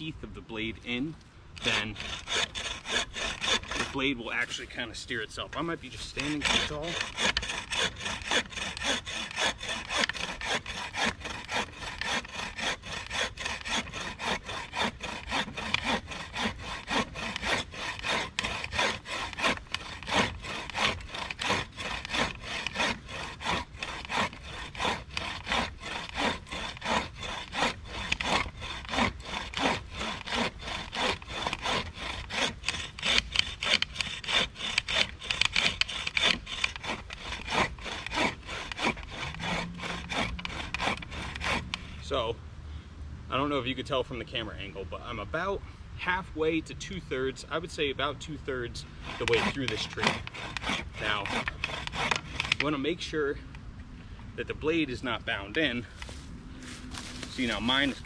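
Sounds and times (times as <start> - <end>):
bow saw cutting wood: 0.7 - 42.2, 47.4 - 53.6, 54.4 - 58.0.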